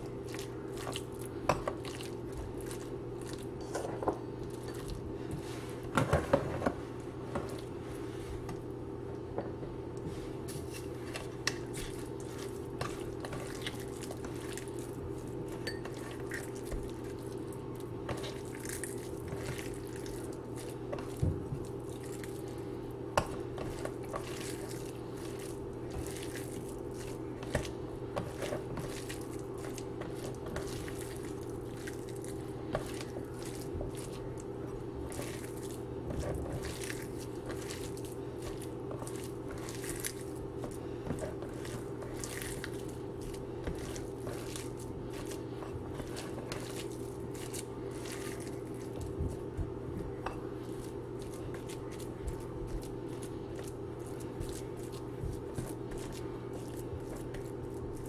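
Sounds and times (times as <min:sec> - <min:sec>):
food squished by hand: 0:00.0 - 0:03.6, 0:10.5 - 0:58.0.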